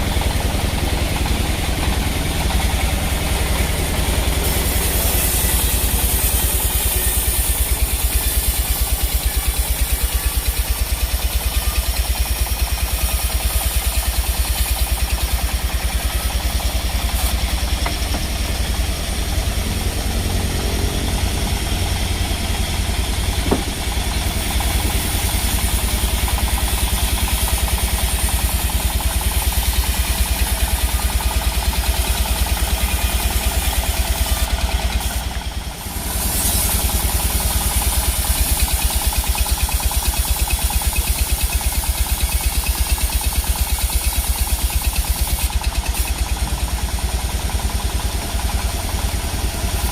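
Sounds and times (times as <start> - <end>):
sawmill machinery drone: 0.0 - 49.9.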